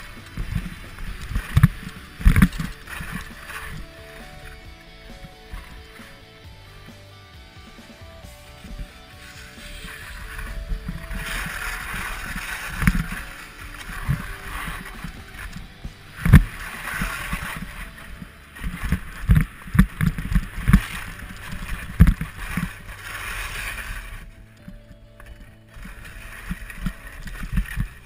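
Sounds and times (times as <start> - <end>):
skis scraping over snow: 0.0 - 28.0.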